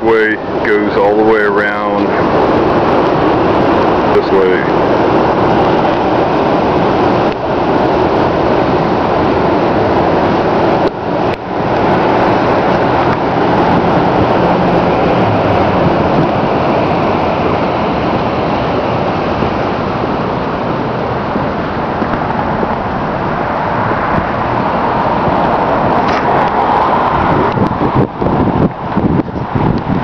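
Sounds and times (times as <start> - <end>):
street traffic: 0.0 - 30.0
wind on microphone: 0.0 - 30.0.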